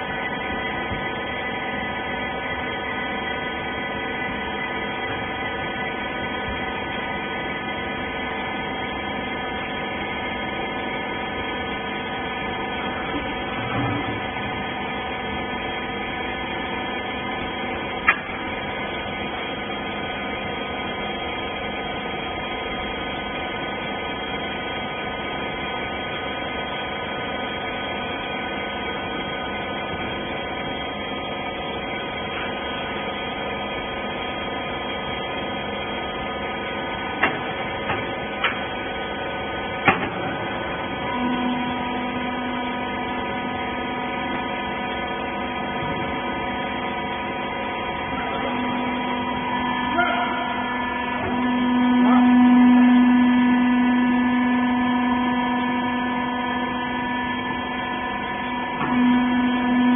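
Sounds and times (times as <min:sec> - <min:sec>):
hydraulic press pump hum: 0:00.0 - 0:59.9.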